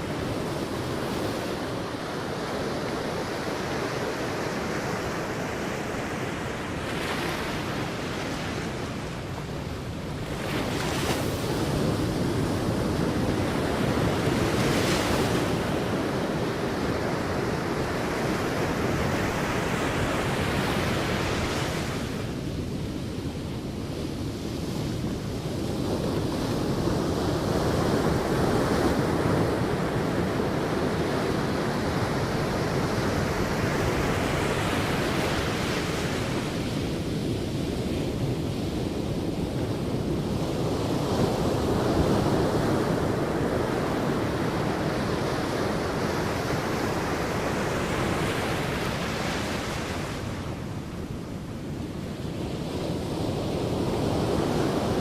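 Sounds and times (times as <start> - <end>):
sea waves breaking on beach: 0.0 - 55.0
wind on microphone: 0.0 - 55.0.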